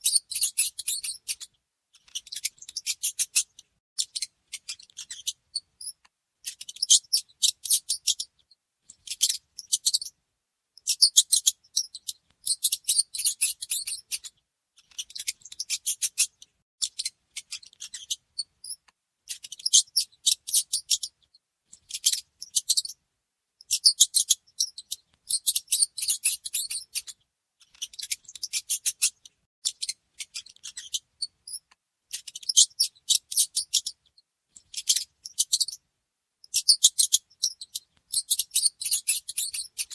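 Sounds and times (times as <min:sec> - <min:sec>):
mice squeaking and chittering: 0:00.0 - 0:10.2, 0:10.8 - 0:23.0, 0:23.6 - 0:35.8, 0:36.4 - 0:39.9.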